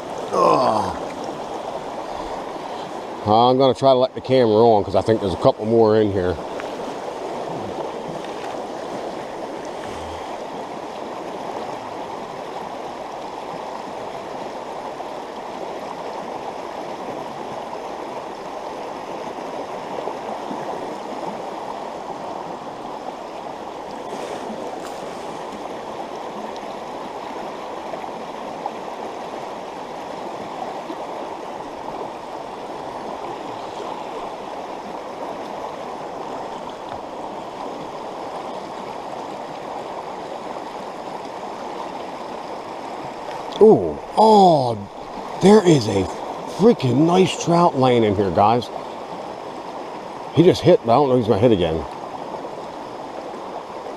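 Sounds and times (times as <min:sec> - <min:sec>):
stream water rushing over rocks: 0:00.0 - 0:53.9.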